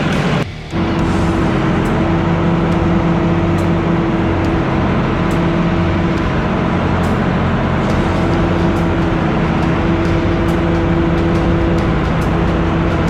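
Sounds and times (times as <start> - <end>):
farm machine engine humming: 0.0 - 13.0.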